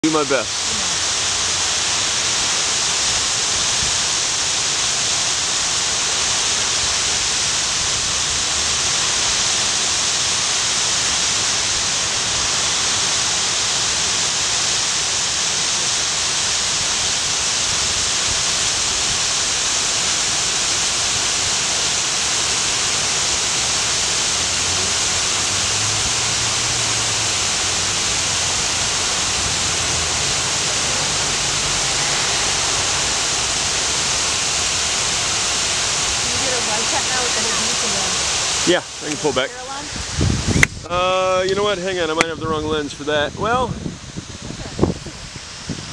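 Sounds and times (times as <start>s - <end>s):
floodwater pouring over rocks: 0.0s - 45.9s.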